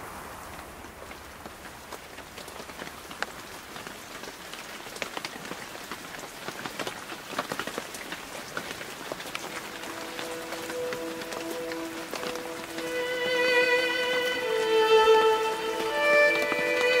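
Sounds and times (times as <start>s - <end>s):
rain falling on wet surfaces: 0.0s - 17.0s.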